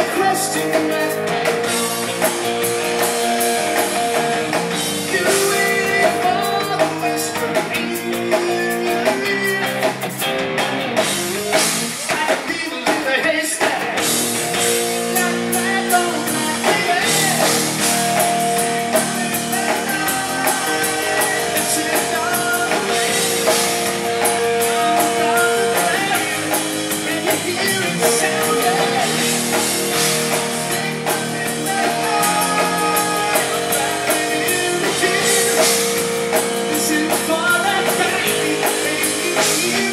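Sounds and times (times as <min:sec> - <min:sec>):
man singing: 0:00.0 - 0:02.4, 0:04.8 - 0:10.0, 0:11.9 - 0:14.1, 0:14.8 - 0:39.9
bass guitar: 0:00.0 - 0:12.4, 0:13.6 - 0:39.9
drum kit: 0:00.0 - 0:39.9
electric guitar: 0:00.0 - 0:39.9.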